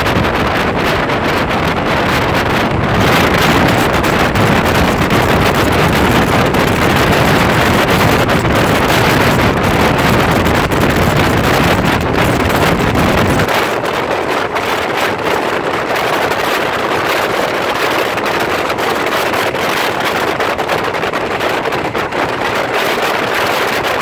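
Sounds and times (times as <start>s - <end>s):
diesel railcar running at speed: 0.0s - 24.0s
wind buffeting microphone: 0.0s - 24.0s.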